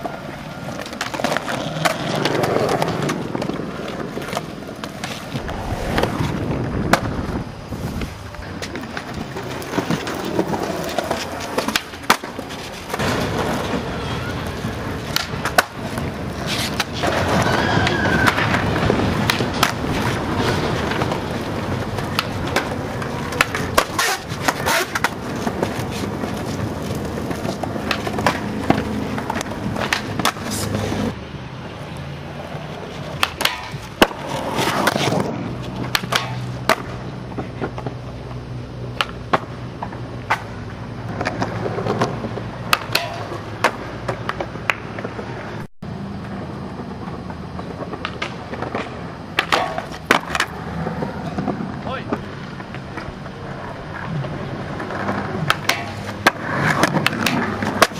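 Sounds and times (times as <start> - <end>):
skateboard wheels rolling on concrete: 0.0 - 57.9
skateboards clacking on ground: 0.0 - 57.9.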